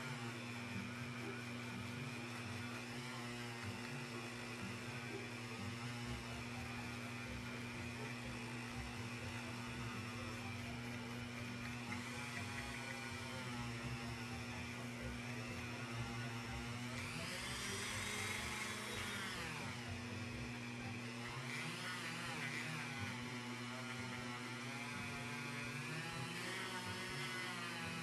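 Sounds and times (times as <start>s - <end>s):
rotary tool motor whine: 0.0s - 28.0s.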